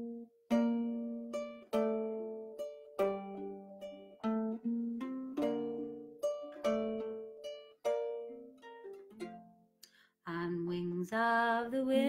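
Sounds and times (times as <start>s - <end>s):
plucked string instrument melody: 0.0s - 9.8s.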